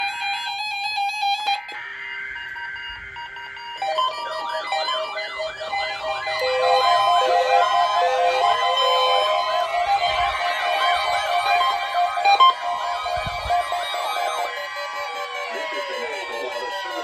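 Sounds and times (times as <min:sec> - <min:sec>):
siren-like wail: 0:00.0 - 0:17.0
electronic music: 0:01.6 - 0:17.0.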